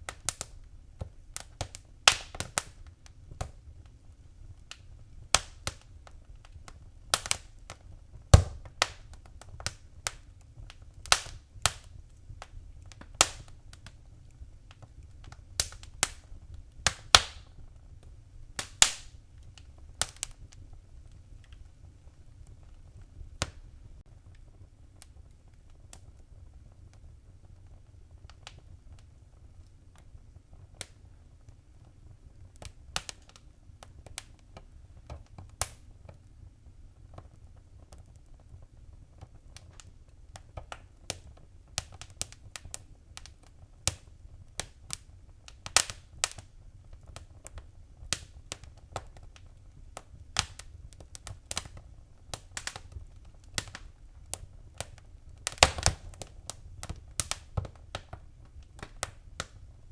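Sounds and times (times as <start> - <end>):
fire crackling and popping: 0.0 - 59.9
low steady fire rumble: 0.0 - 59.9.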